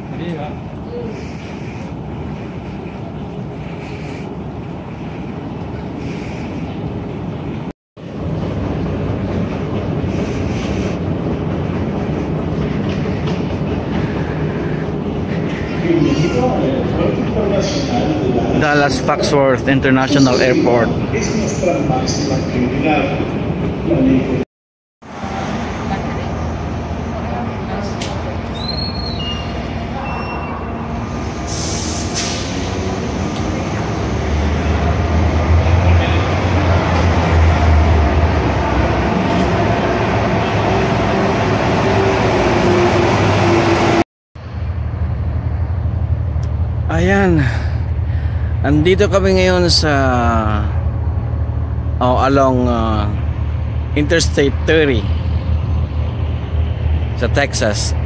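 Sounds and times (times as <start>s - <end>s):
airport terminal rumble and hum: 0.0s - 24.4s, 25.1s - 43.0s, 44.4s - 58.0s.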